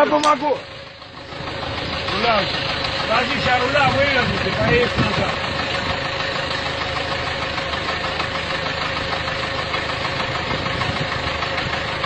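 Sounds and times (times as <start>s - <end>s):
vehicle engine running steadily: 0.0s - 12.0s.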